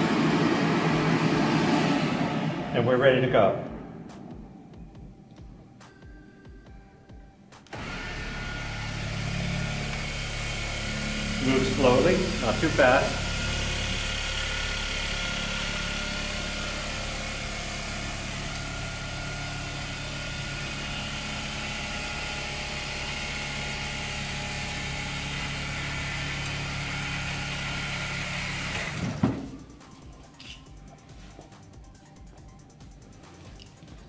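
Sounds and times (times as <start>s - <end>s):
floor scrubber motor hum: 0.0s - 4.8s, 7.7s - 30.3s.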